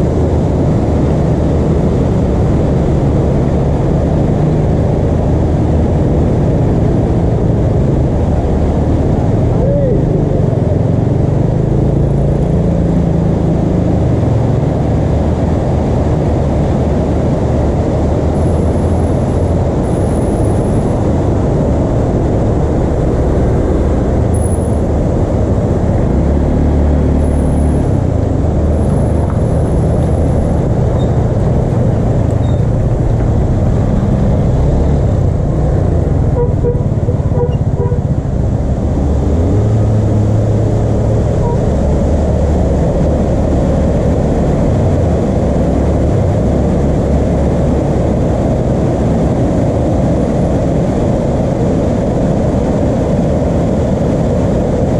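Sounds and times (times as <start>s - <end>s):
river rushing roar: 0.0s - 54.9s
road traffic: 0.0s - 54.9s
vehicle engine: 0.0s - 54.9s.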